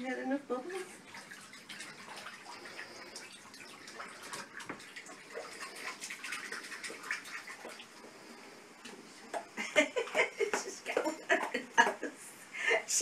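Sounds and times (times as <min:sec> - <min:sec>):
bath water splashing and dripping: 0:00.6 - 0:12.1.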